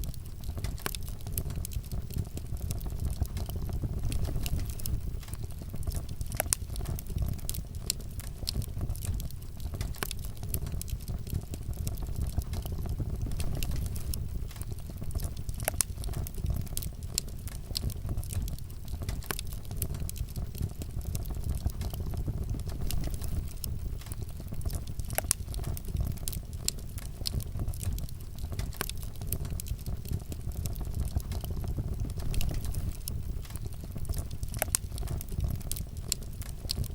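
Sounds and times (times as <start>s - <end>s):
low rumble of flames: 0.0s - 36.9s
wood fire crackling and popping: 0.0s - 36.9s.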